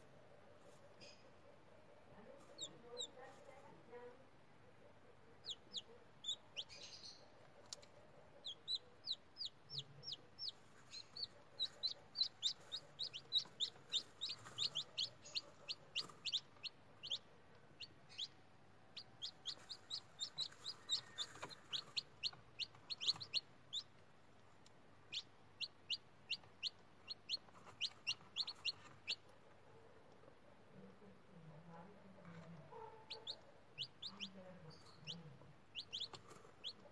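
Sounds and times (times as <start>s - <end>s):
chicks peeping: 0.6s - 4.0s, 4.6s - 36.9s.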